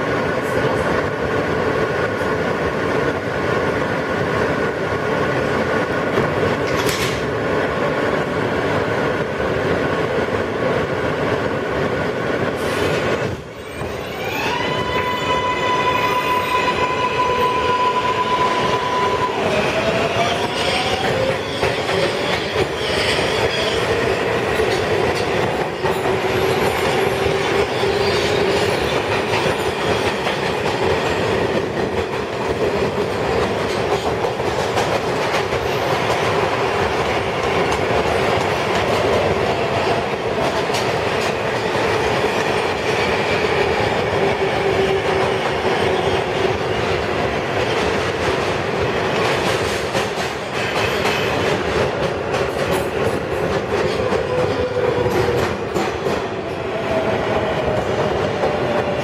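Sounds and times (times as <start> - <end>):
subway car rumbling on rails: 0.0 - 59.0.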